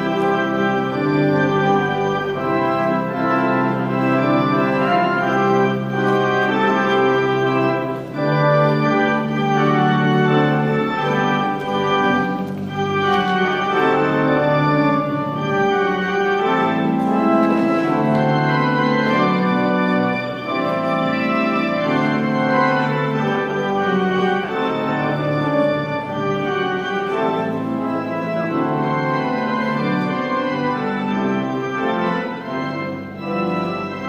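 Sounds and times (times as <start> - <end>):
organ playing sustained chords: 0.0 - 34.0.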